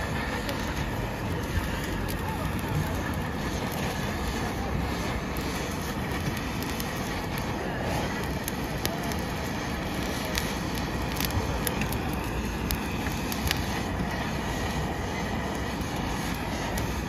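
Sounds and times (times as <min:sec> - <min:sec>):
blowtorch rushing hiss: 0:00.0 - 0:17.0
sharp clicks and crackles: 0:00.0 - 0:17.0.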